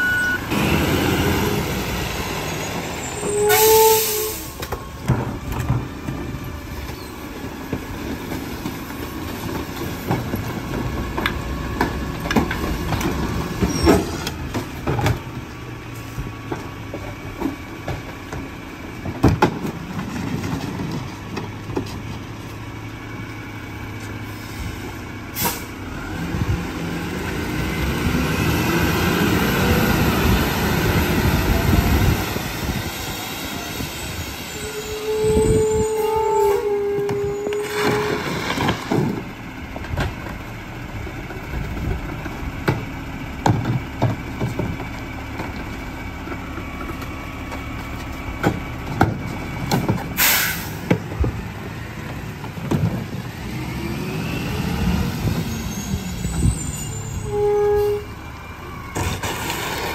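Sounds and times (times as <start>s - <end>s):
garbage truck diesel engine: 0.0s - 59.9s.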